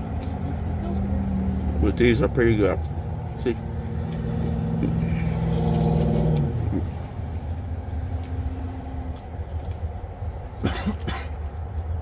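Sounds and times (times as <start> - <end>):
vehicle engine running: 0.0 - 10.6.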